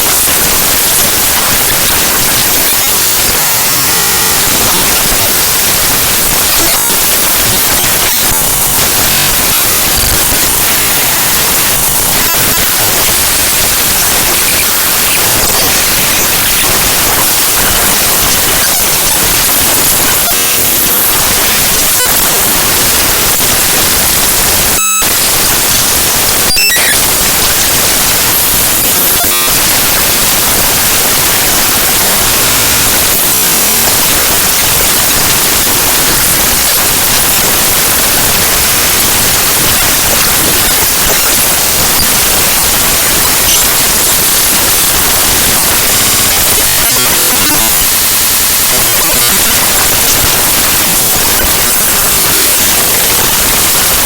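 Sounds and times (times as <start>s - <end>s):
harsh digital static: 0.0s - 54.0s.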